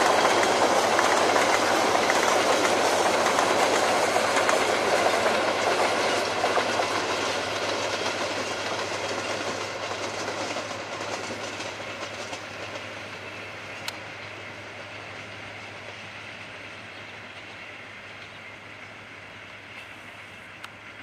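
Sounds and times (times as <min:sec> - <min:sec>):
train coaches rolling on rails: 0:00.0 - 0:21.0.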